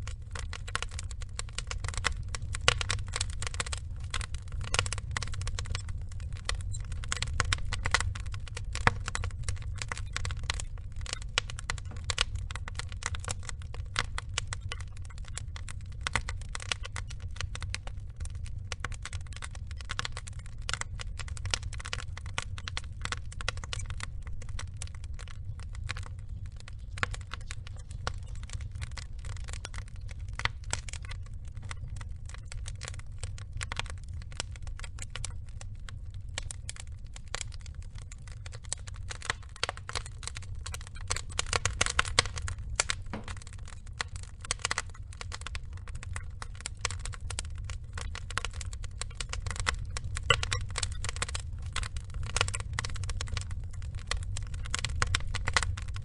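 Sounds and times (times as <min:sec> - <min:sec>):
burning logs crackling and popping: 0:00.0 - 0:56.0
low rumble of fire: 0:00.0 - 0:56.0.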